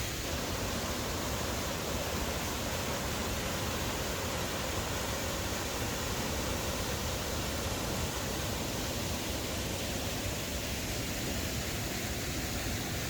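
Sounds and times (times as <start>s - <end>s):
river cascading over rocks: 0.0s - 13.0s.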